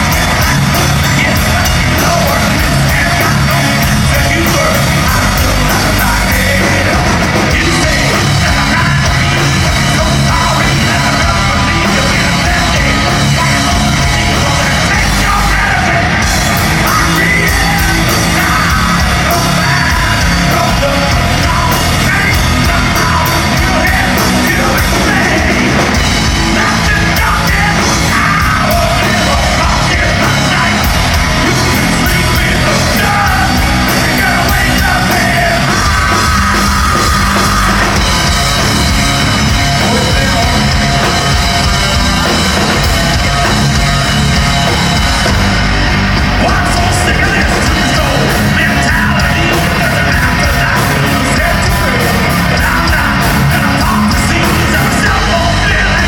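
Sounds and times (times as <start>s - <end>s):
heavy rock music: 0.0s - 56.0s
shouted vocals: 0.0s - 56.0s.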